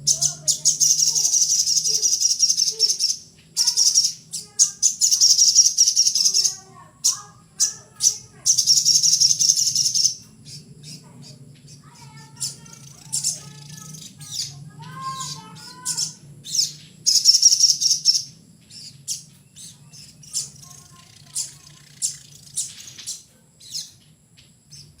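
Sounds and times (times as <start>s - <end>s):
songbird chipping calls: 0.0s - 25.0s.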